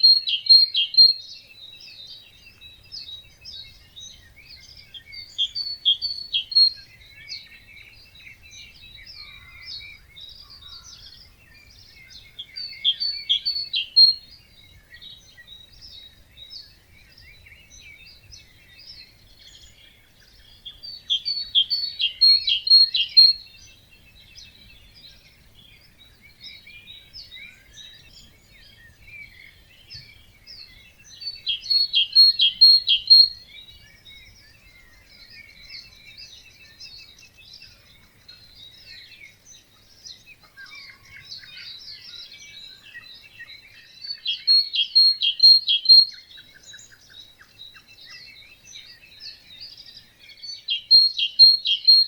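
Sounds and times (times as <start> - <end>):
bird singing loud rapid song: 0.0 - 52.0
birds chirping and singing: 0.0 - 52.0.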